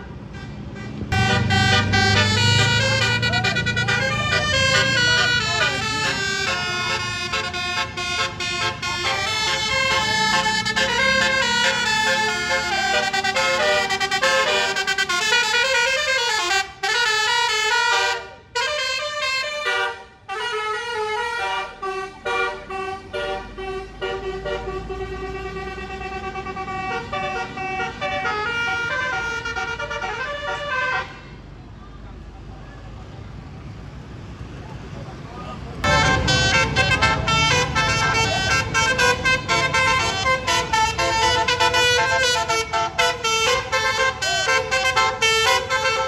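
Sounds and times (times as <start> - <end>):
musical air horn melody: 0.8 - 31.2, 35.8 - 46.0.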